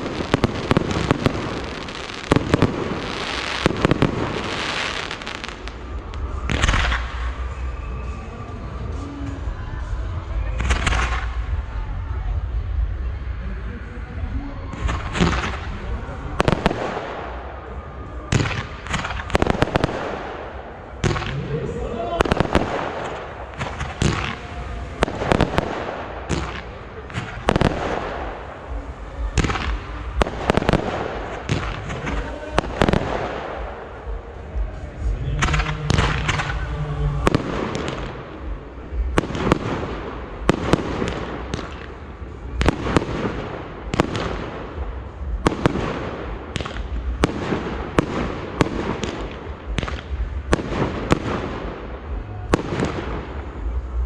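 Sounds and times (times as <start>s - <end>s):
fireworks bursts and bangs: 0.0s - 13.4s, 14.1s - 54.0s.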